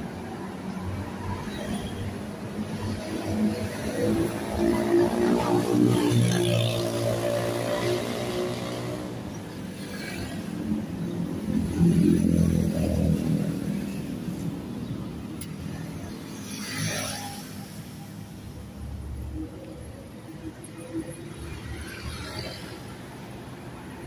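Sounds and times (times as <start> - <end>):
motorcycle engines passing: 1.4 - 24.0.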